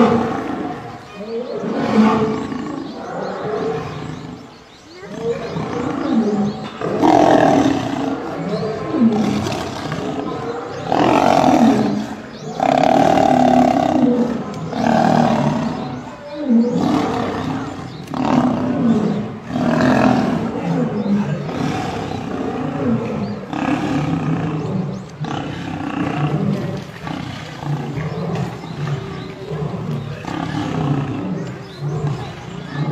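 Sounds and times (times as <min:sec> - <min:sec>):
lions growling in a fight: 0:00.0 - 0:32.9.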